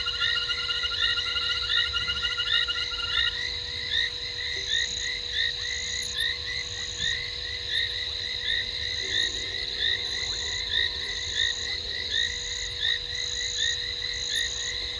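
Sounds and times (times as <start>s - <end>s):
frogs chirping: 0.0s - 14.9s.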